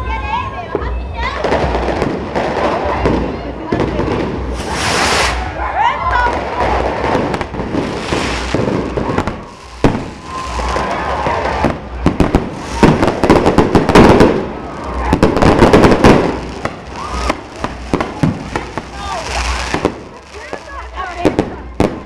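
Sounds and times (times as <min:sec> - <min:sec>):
fireworks bangs and crackling: 0:00.1 - 0:22.0.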